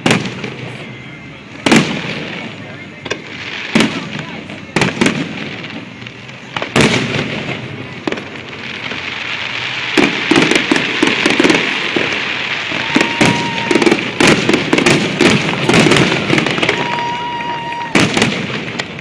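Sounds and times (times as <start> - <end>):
firework bangs: 0.0 - 19.0
firework crackling: 0.0 - 19.0.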